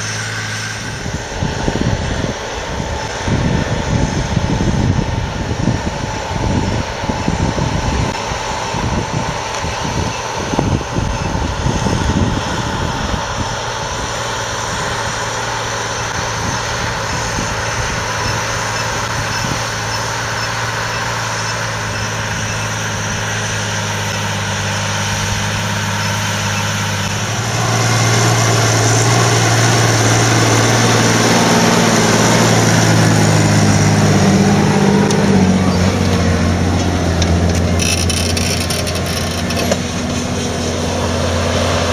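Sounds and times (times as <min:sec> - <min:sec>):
tractor diesel engine under load: 0:00.0 - 0:41.9
wind buffeting microphone: 0:00.8 - 0:41.9.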